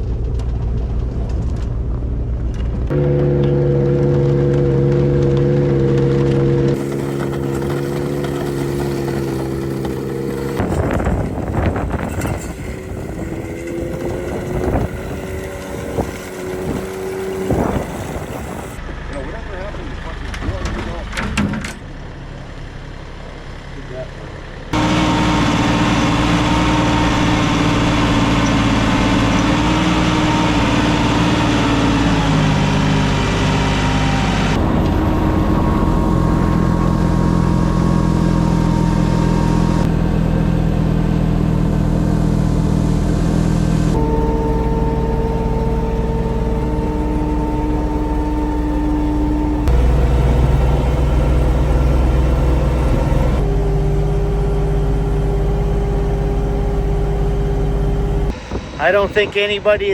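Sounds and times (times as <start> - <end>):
vehicle engine running: 0.0 - 21.2, 21.8 - 58.4.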